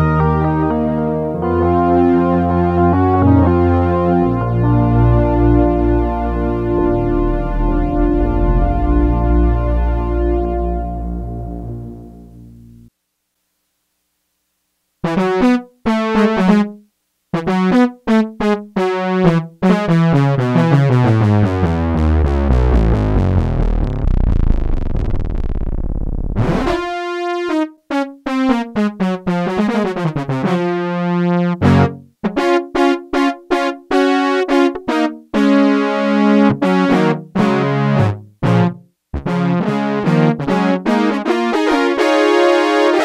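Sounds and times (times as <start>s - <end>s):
synthesizer chords and notes: 0.0s - 12.9s, 17.4s - 43.0s.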